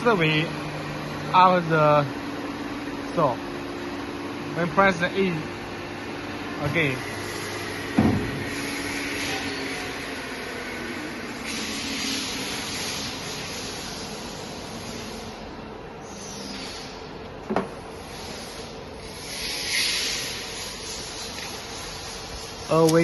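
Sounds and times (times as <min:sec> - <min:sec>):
waterjet cutting machine hissing: 0:00.0 - 0:17.1, 0:17.9 - 0:23.0.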